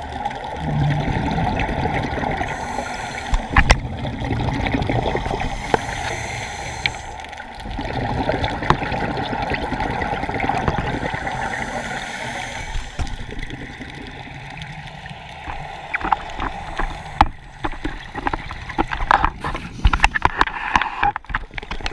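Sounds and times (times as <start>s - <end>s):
diver's bubbles gurgling: 0.0s - 21.9s.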